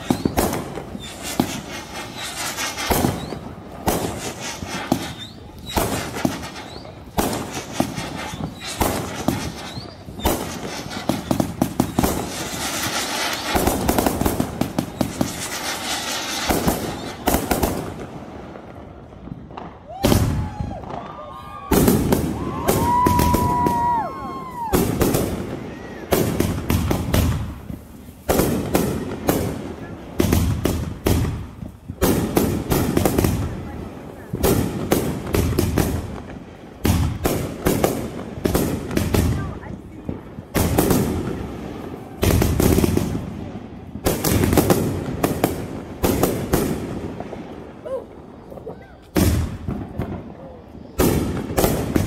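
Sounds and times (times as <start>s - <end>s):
fireworks bangs: 0.0s - 52.0s
fireworks whistling: 0.0s - 52.0s.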